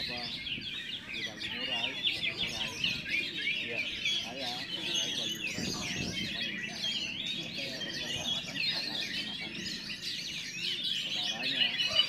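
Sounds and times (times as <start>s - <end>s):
birds singing chorus: 0.0s - 12.0s
murmur of voices: 0.0s - 12.0s.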